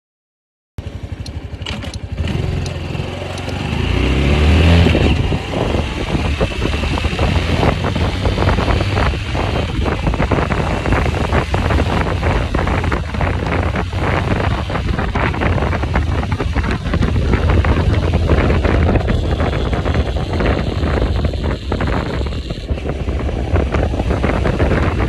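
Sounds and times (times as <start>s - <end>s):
motorcycle engine starting and clattering: 0.8s - 25.0s.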